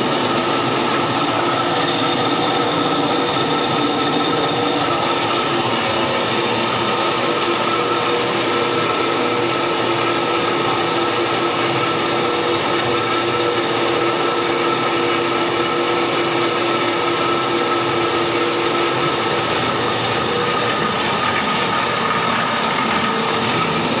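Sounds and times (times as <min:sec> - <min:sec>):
pellet mill running: 0:00.0 - 0:24.0.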